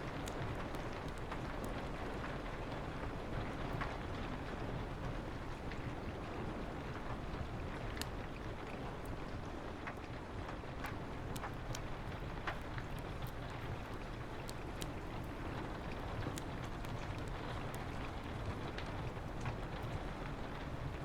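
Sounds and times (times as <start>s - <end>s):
steady rain: 0.0s - 21.0s
wood fire crackling pops: 0.0s - 21.0s.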